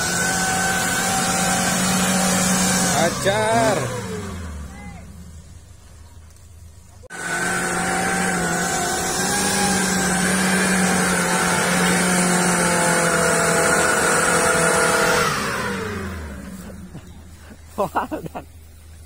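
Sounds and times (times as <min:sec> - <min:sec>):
engine running at high revs: 0:00.0 - 0:05.6, 0:07.1 - 0:17.7.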